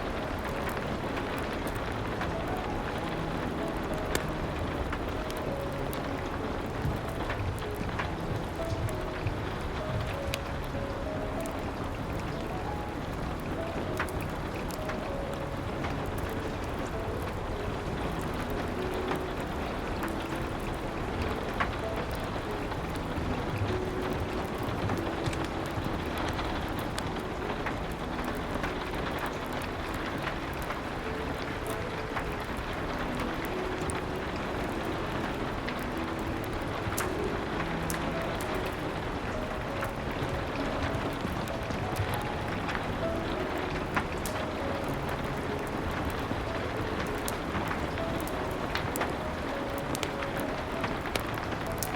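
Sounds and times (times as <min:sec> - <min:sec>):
rain against a window: 0:00.0 - 0:51.9
soft piano notes: 0:00.0 - 0:51.9
wood fire crackling: 0:00.0 - 0:51.9.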